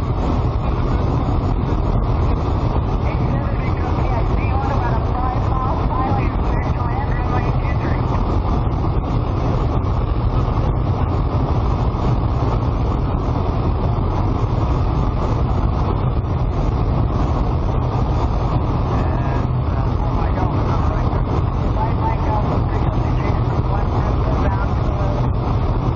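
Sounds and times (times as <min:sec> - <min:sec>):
propeller aircraft engine drone: 0:00.0 - 0:25.9.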